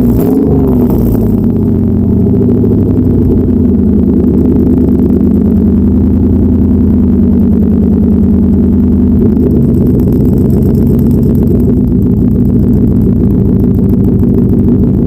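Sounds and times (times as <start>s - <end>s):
truck engine exhaust note: 0.0s - 15.0s.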